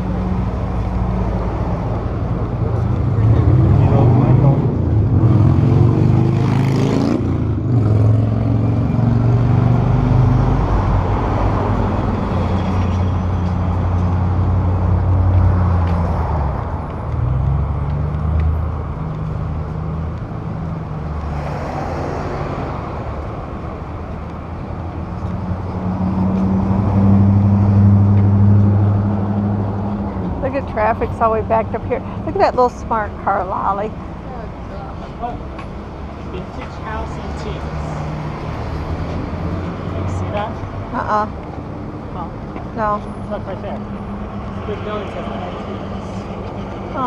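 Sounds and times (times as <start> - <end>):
vehicles passing on street: 0.0 - 47.0.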